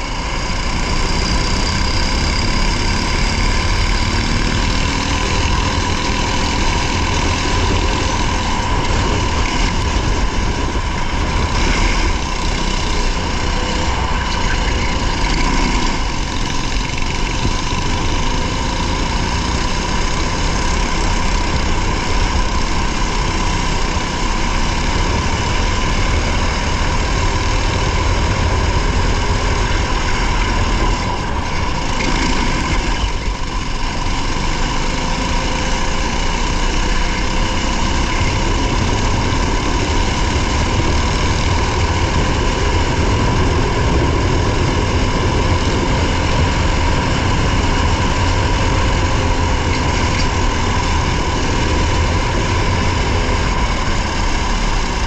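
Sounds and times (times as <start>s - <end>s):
low rumble of road noise: 0.0s - 55.0s
race car engine running: 0.0s - 55.0s.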